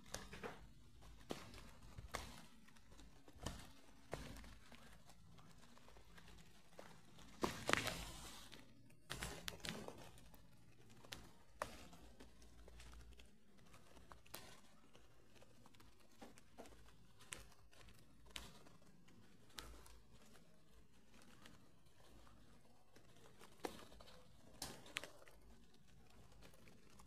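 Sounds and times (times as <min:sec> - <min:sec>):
faint rustle and crackle: 0:00.0 - 0:27.0.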